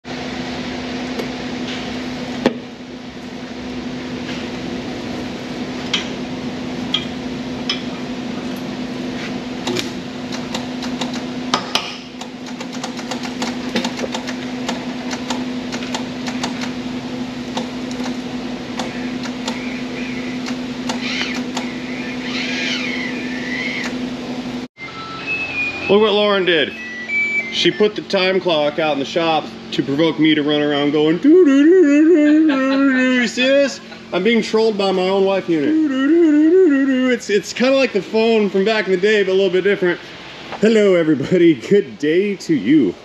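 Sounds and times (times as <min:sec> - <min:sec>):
steady workshop hum: 0:00.0 - 0:43.0.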